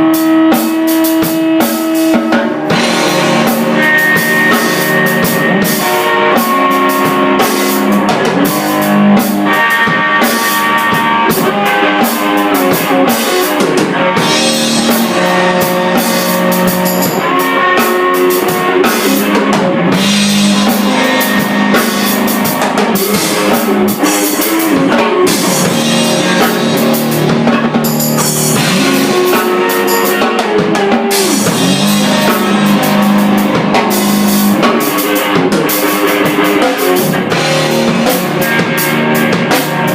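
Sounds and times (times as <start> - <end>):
drum kit playing: 0.0 - 39.9
electric guitar: 0.0 - 39.9.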